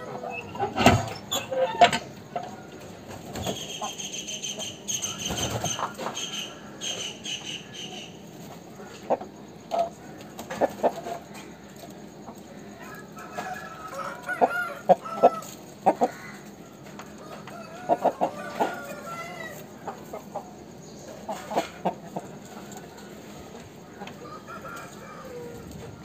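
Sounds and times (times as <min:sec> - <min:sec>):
chickens clucking: 0:00.0 - 0:26.0
roosters crowing: 0:00.0 - 0:26.0.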